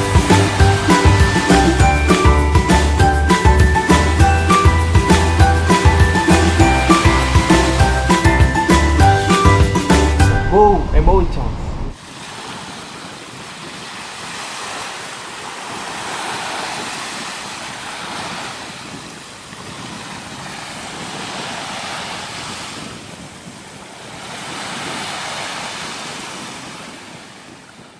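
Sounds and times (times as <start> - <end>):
ocean waves washing in: 0.0 - 27.9.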